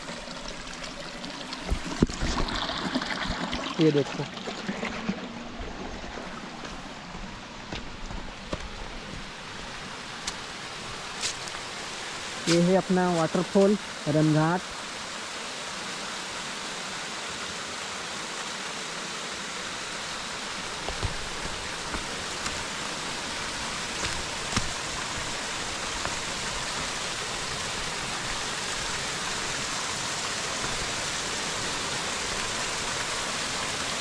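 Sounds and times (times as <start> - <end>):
small waterfall rushing: 0.0 - 34.0.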